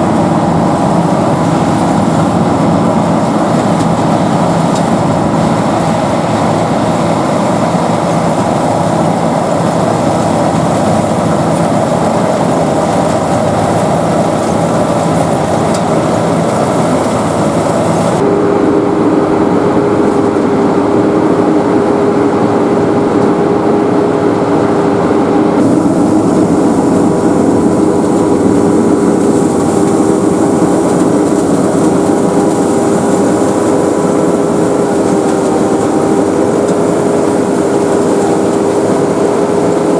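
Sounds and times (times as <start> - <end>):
harvester engine running: 0.0 - 39.9
steady hum: 0.0 - 39.9.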